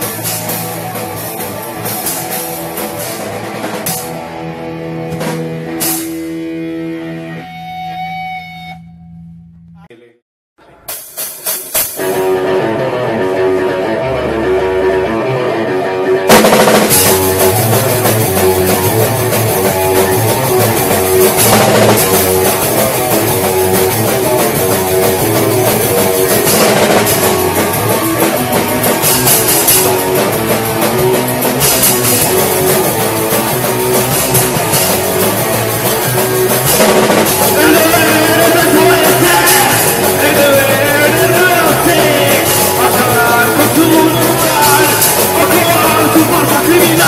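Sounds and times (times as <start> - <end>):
rock band playing: 0.0 - 9.6, 10.8 - 47.0.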